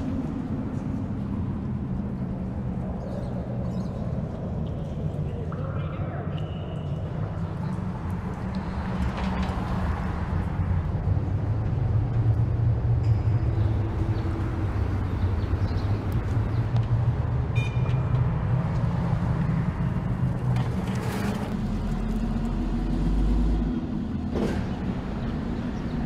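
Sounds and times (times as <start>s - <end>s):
motor vehicle rumbling: 0.0s - 26.0s.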